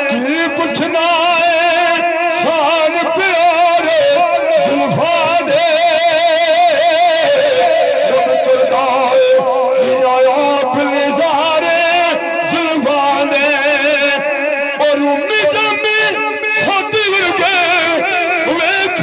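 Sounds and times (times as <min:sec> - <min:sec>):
man singing through a microphone: 0:00.0 - 0:19.0.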